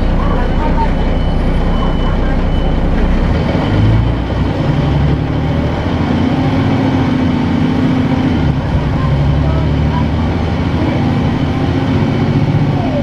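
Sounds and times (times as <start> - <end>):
bus engine hum: 0.0 - 13.0
road noise: 0.0 - 13.0.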